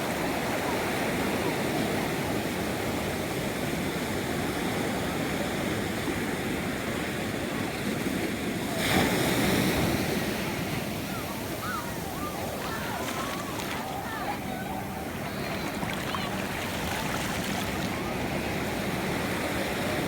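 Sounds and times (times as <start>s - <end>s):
ocean surf washing: 0.0s - 20.0s.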